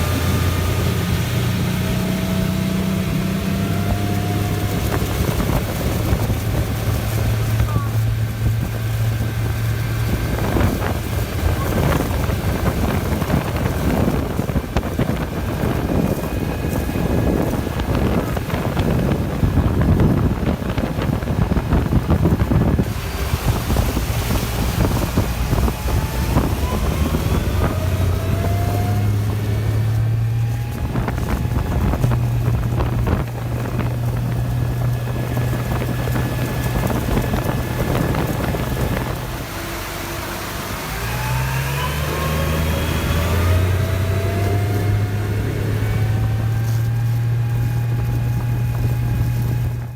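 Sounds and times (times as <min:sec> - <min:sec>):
motorboat engine hum: 0:00.0 - 0:49.9
thin whine rising in pitch: 0:00.0 - 0:49.9
wind noise on microphone: 0:00.0 - 0:49.9.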